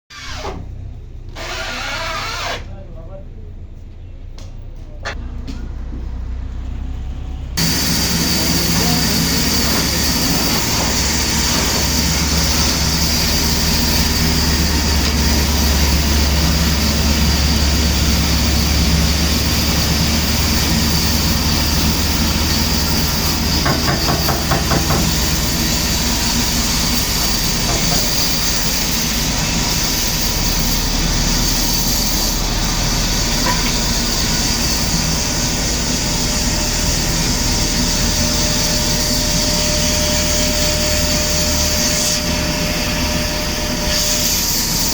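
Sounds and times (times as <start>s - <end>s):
heavy machinery running: 5.1s - 44.9s.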